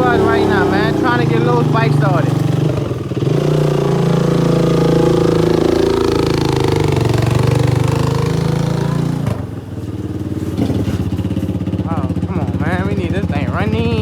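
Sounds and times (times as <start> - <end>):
small engine running rough: 0.0 - 14.0.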